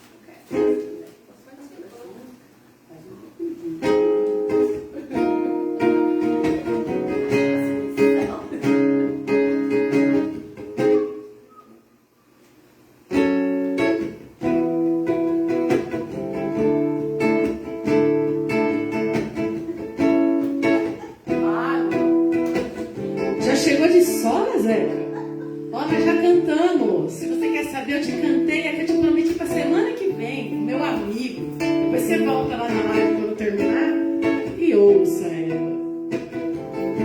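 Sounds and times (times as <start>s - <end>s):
acoustic guitar chords: 3.4s - 12.2s, 12.8s - 37.0s.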